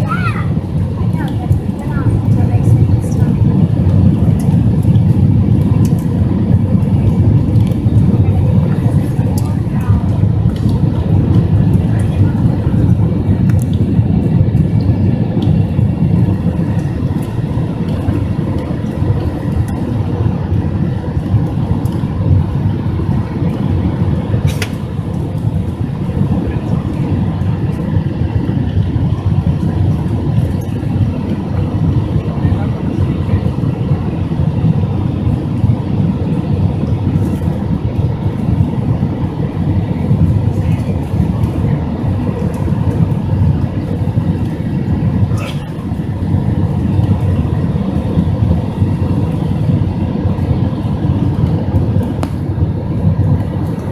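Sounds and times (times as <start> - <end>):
jet engine cabin rumble: 0.0 - 53.9.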